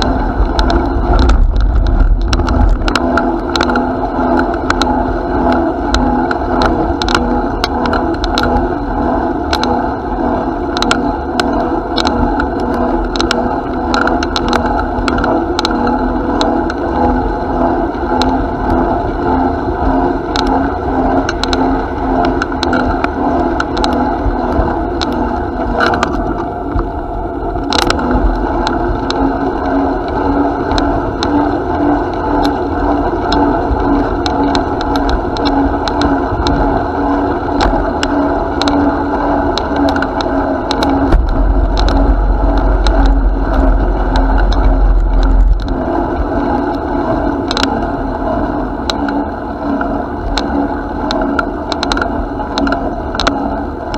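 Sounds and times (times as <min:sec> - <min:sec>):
bicycle clicks and rattles: 0:00.0 - 0:09.9, 0:10.7 - 0:18.9, 0:20.0 - 0:27.0, 0:27.6 - 0:53.9
bicycle tyres and wind rumble: 0:00.0 - 0:53.9.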